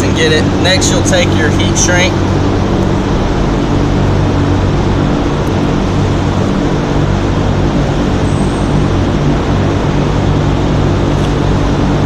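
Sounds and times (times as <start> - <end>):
low motor hum: 0.0 - 12.0
rushing airy machine noise: 0.0 - 12.0.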